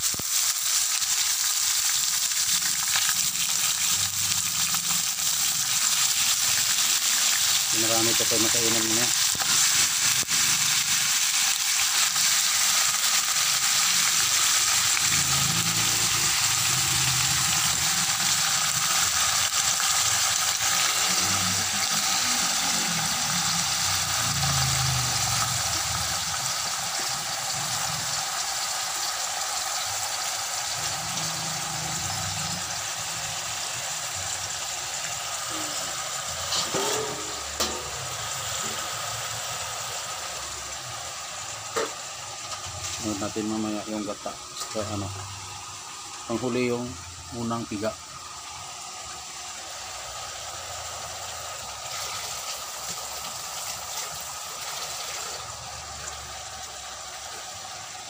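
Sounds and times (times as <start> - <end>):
chicken frying in hot oil: 0.0 - 58.0.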